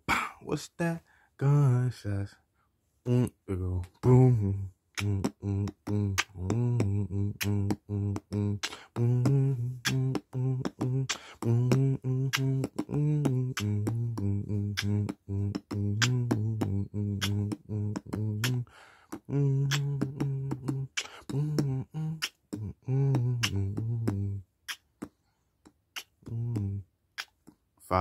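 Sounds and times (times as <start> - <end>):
man beatboxing: 3.1 - 28.0
mouth clicks: 5.0 - 27.6.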